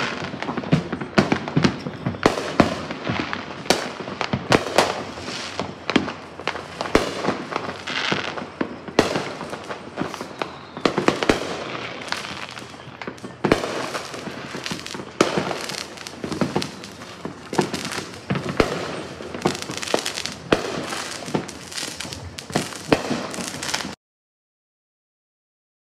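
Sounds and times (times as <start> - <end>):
fireworks bangs: 0.0 - 24.0
fireworks crackling and popping: 0.0 - 24.0.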